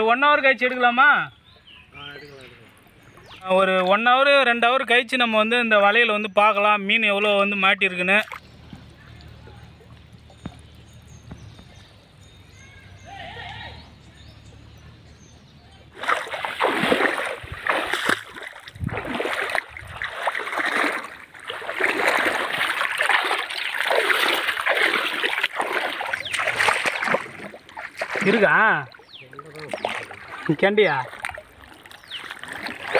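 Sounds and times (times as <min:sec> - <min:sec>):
people wading through water: 0:00.0 - 0:32.9.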